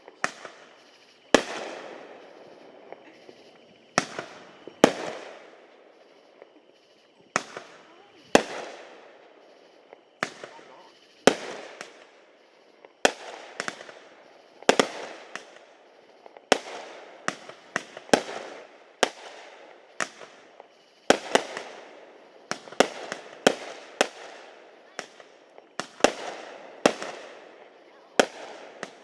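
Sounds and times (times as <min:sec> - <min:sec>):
fireworks bangs echoing: 0:00.0 - 0:29.0.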